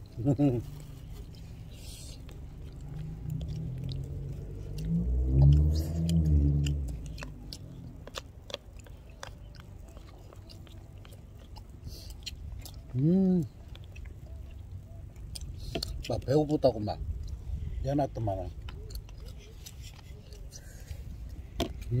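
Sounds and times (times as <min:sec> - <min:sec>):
person chewing and biting: 0:00.6 - 0:16.1, 0:18.4 - 0:22.0.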